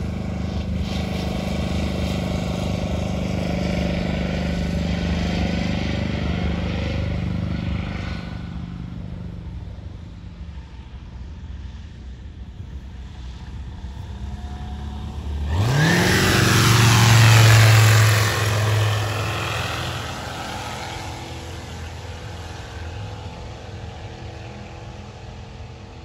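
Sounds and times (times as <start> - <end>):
light aircraft engine and propeller: 0.0 - 26.0.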